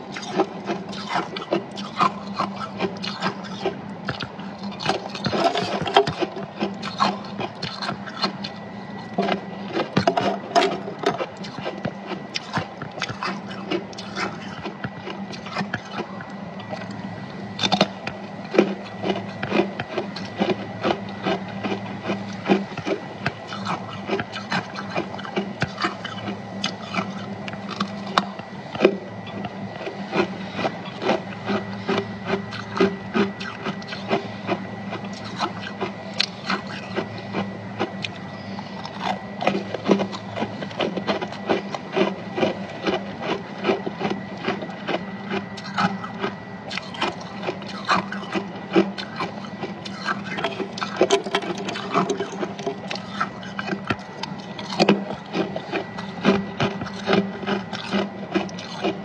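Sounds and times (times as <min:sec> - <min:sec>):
crunching of frost being chewed: 0:00.0 - 0:59.0
faint high whine: 0:00.0 - 0:59.0
steady low hum: 0:00.0 - 0:59.0.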